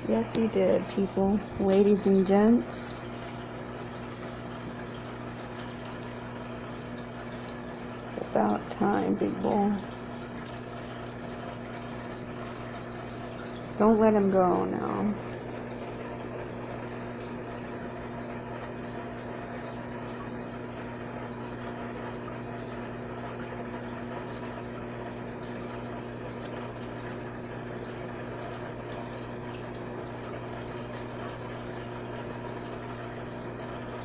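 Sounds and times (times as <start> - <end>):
trickling water: 0.0 - 34.0
water filter humming: 0.0 - 34.0.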